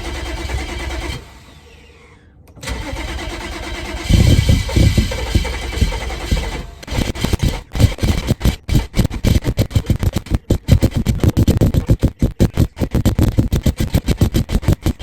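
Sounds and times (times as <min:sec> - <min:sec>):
engine cranking on starter: 0:00.0 - 0:15.0
rapid uneven pulses: 0:02.9 - 0:15.0.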